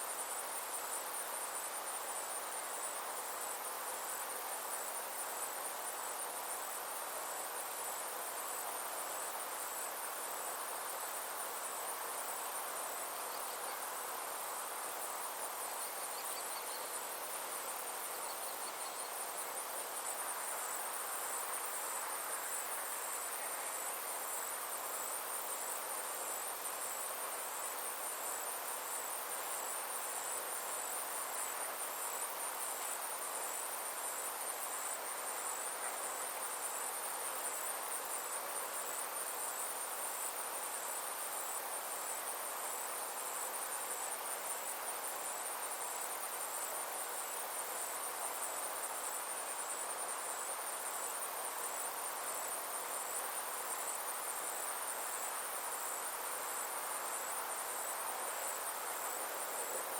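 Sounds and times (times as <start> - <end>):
insects trilling: 0.0 - 59.9
soft outdoor hiss: 0.0 - 59.9.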